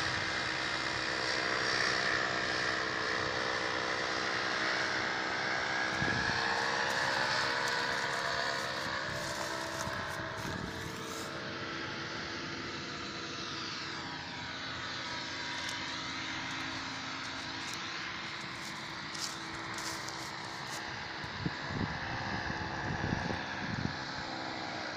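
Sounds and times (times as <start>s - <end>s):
paramotor engine droning: 0.0s - 24.9s.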